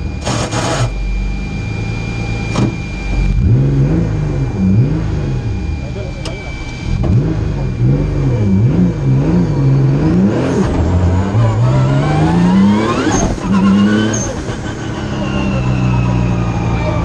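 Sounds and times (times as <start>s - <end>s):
high whine: 0.0s - 17.0s
race car engine revving: 0.1s - 17.0s.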